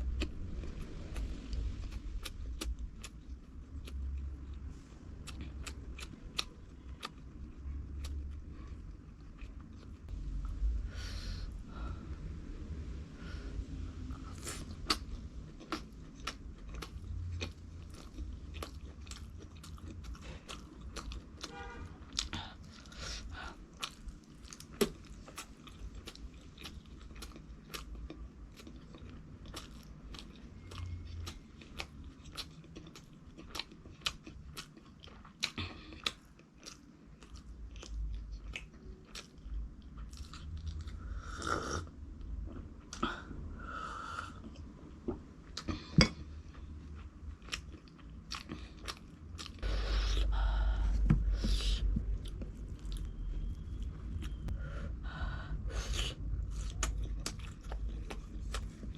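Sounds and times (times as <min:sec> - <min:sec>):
chewing crunchy fried food: 0:00.0 - 0:10.1, 0:14.1 - 0:41.6, 0:44.4 - 0:54.5, 0:55.8 - 0:58.9.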